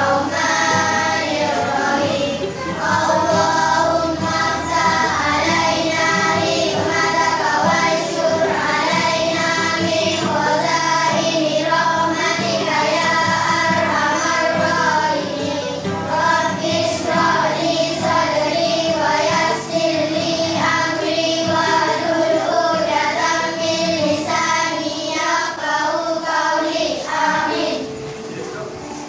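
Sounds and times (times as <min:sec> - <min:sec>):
children singing together: 0:00.0 - 0:28.7
instrumental accompaniment: 0:00.0 - 0:29.0.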